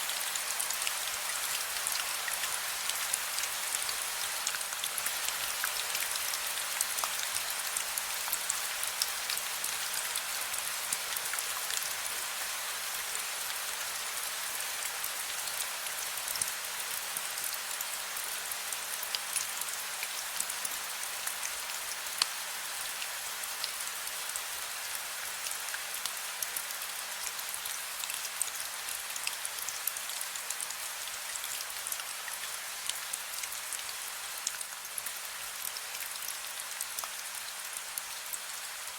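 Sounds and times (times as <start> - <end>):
gentle rain hiss: 0.0 - 38.9.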